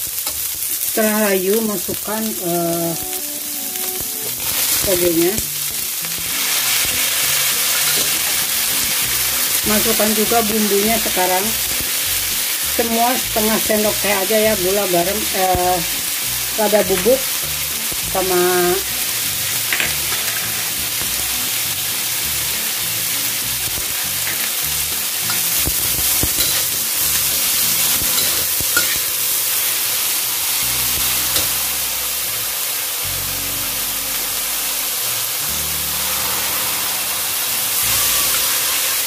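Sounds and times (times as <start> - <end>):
vegetables sizzling in a wok: 0.0 - 39.0.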